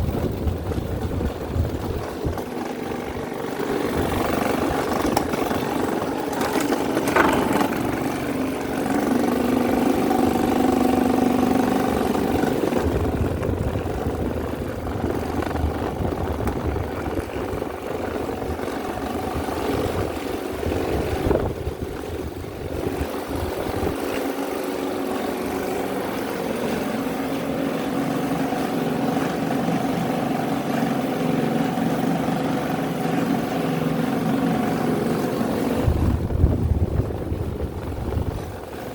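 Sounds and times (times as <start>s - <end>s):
electric fans humming: 0.0s - 38.9s.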